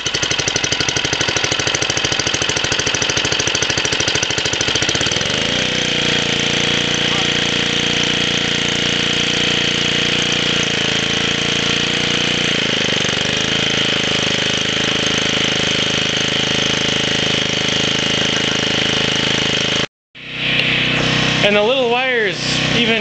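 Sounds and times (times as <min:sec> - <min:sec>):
small gasoline generator running: 0:00.0 - 0:23.0.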